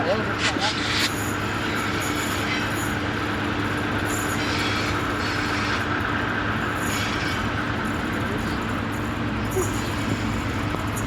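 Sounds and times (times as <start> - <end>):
train engine hum: 0.0 - 11.0.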